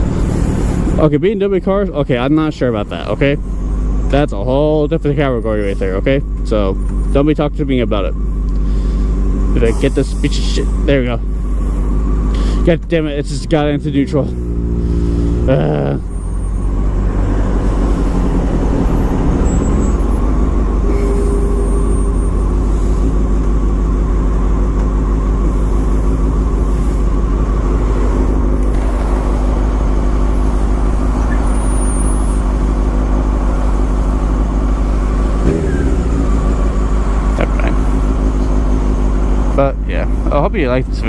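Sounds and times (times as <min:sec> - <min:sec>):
road traffic: 0:00.0 - 0:41.0
motorcycle engine idling: 0:01.4 - 0:16.9, 0:19.8 - 0:41.0.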